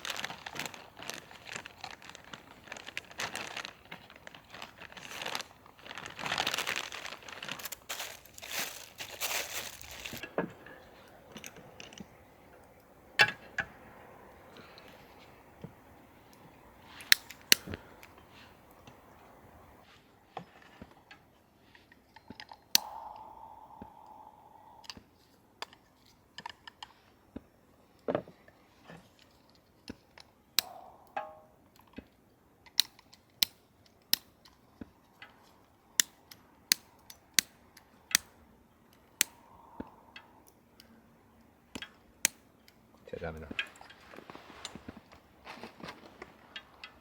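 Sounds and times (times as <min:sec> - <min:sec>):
campfire crackling: 0:00.0 - 0:19.9, 0:22.7 - 0:26.8, 0:29.2 - 0:32.0, 0:32.7 - 0:47.0.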